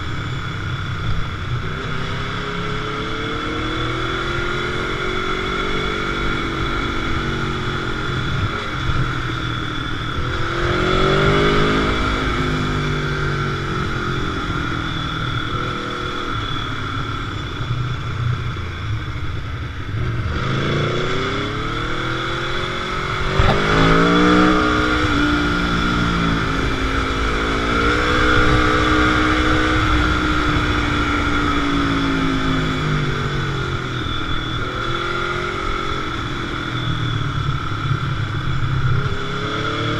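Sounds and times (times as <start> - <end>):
motorcycle engine accelerating: 0.0 - 39.9
steady rushing noise: 0.0 - 39.9.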